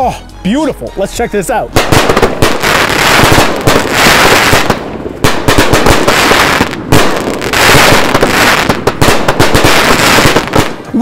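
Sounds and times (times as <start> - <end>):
fireworks barrage: 1.7 - 11.0.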